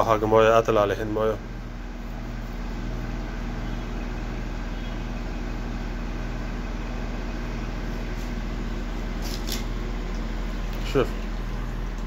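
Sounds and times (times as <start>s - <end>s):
washer drain pump humming: 0.0s - 12.0s.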